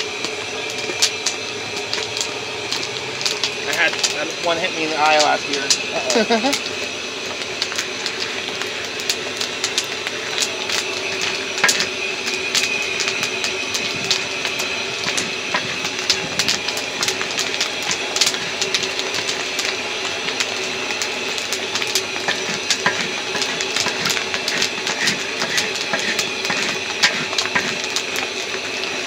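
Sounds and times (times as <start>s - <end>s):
machine hum: 0.0s - 29.0s
popcorn popping: 0.0s - 29.0s
paddle stirring kernels: 0.1s - 29.0s.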